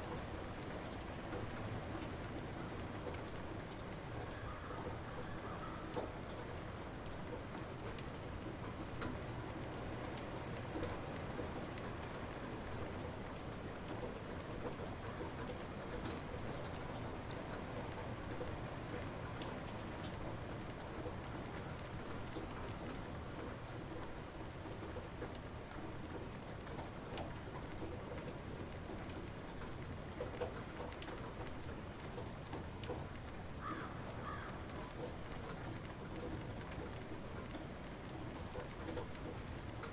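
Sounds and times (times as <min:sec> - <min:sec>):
light rain hiss: 0:00.0 - 0:39.9
raindrops ticking: 0:00.0 - 0:39.9.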